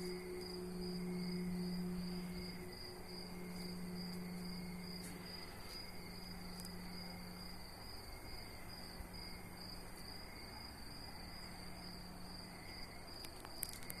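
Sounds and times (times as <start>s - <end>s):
night insects trilling: 0.0s - 14.0s
steady low hum: 0.0s - 14.0s.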